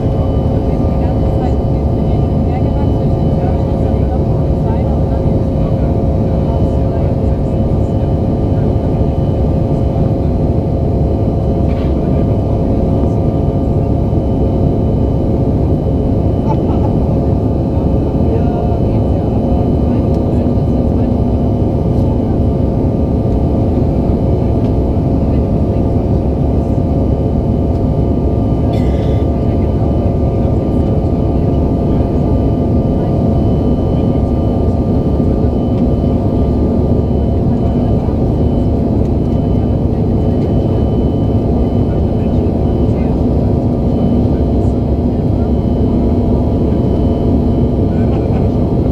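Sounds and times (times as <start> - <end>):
jet cabin rumble: 0.0 - 48.9.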